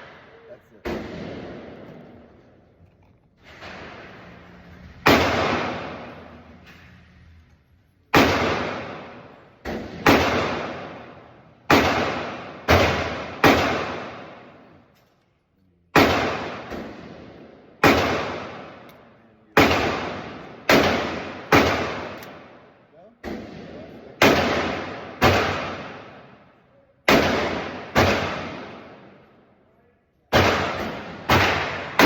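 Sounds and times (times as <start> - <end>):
gunshots with echo: 0.0 - 2.5, 3.5 - 6.7, 8.1 - 14.9, 15.9 - 29.4, 30.3 - 32.0.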